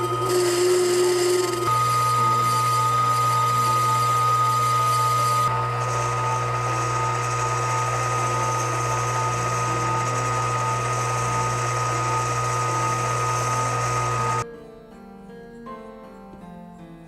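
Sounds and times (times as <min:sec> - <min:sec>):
lathe high whine: 0:00.0 - 0:14.4
lathe motor hum: 0:00.0 - 0:14.4.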